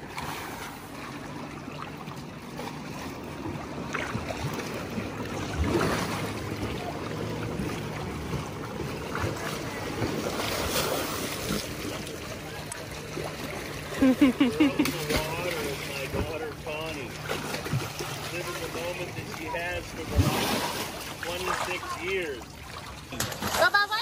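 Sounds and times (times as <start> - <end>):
elephant splashing water: 0.0 - 24.0.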